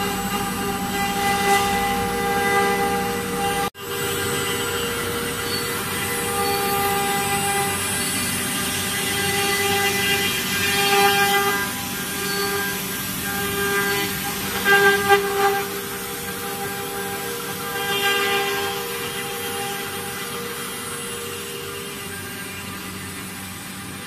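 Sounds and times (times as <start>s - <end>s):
cutter rasping through wood: 0.0s - 24.0s
router spindle high whine: 0.0s - 24.0s.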